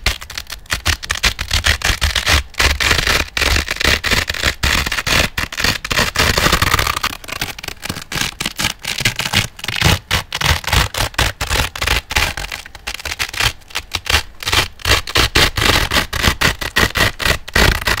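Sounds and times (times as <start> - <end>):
velcro ripping: 0.0 - 18.0.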